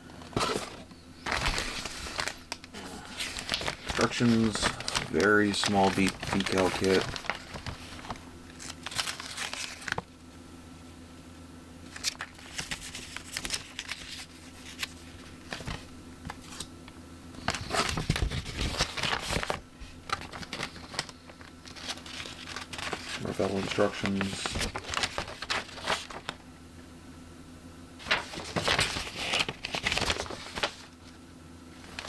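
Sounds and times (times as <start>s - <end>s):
low steady hum: 0.0s - 32.0s
plastic bags and paper crinkling: 0.2s - 10.2s, 11.9s - 16.7s, 17.4s - 26.4s, 28.0s - 31.2s, 31.8s - 32.0s.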